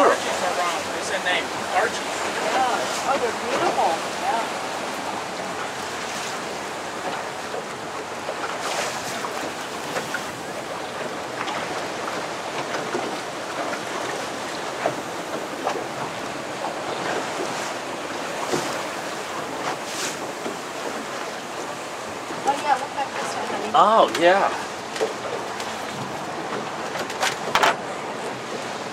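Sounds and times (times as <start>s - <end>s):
sea water sloshing around boat: 0.0s - 28.9s.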